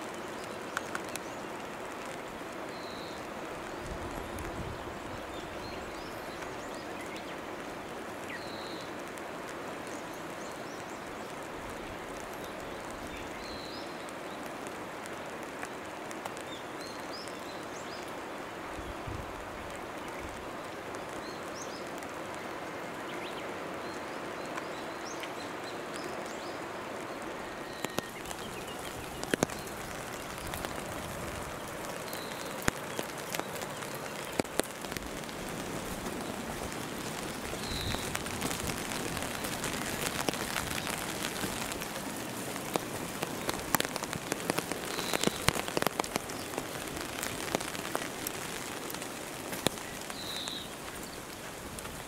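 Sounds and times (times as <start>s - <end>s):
rain hissing: 0.0s - 52.0s.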